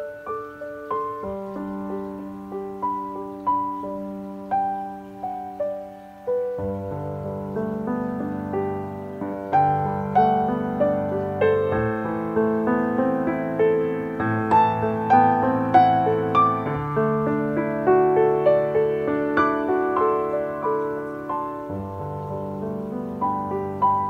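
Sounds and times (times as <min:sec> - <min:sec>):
slow piano melody: 0:00.0 - 0:24.0.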